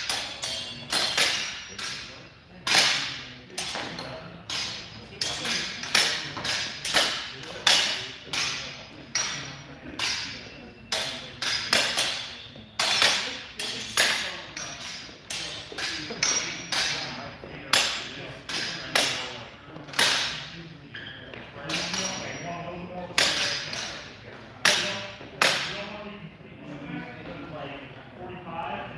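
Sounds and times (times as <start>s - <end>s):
swords clashing with metallic ring: 0.0s - 25.8s.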